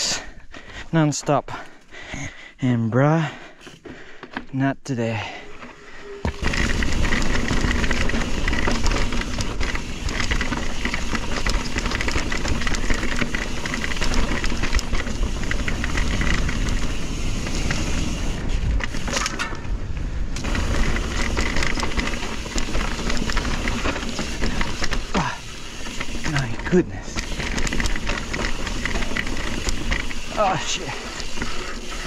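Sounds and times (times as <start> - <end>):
bike rattling over rough trail: 3.2 - 32.0.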